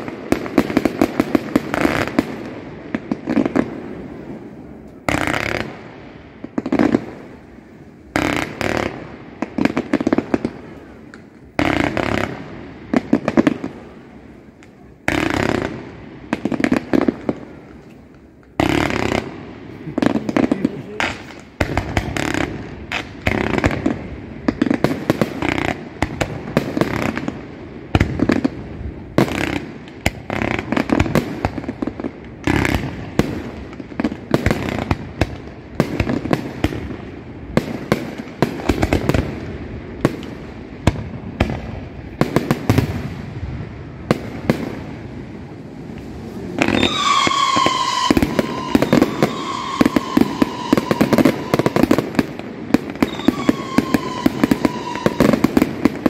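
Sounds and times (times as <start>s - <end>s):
firework bursts and bangs: 0.0s - 56.0s
whistling firework: 0.0s - 56.0s.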